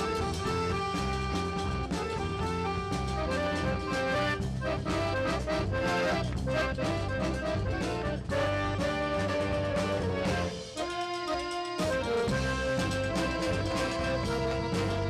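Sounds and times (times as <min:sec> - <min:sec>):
bass line and beat: 0:00.0 - 0:15.0
piano accordion: 0:00.0 - 0:15.0.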